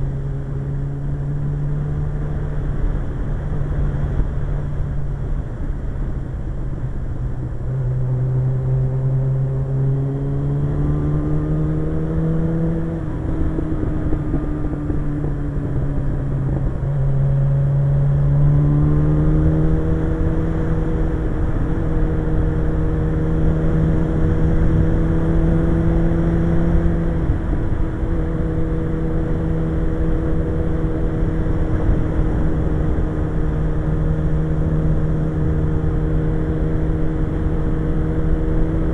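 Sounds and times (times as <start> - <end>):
low wind noise: 0.0 - 38.9
motorcycle engine accelerating: 7.5 - 38.9.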